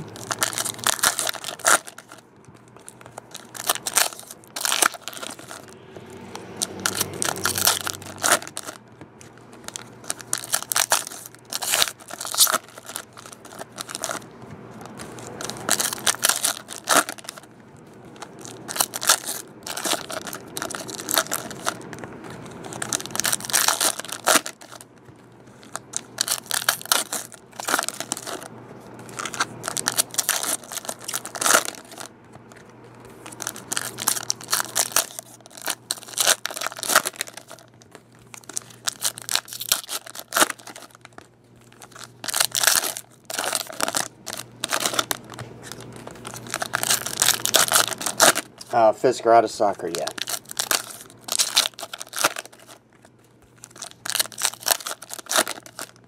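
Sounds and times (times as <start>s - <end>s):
foil wrappers tearing and crinkling: 0.0s - 5.8s, 6.4s - 56.0s.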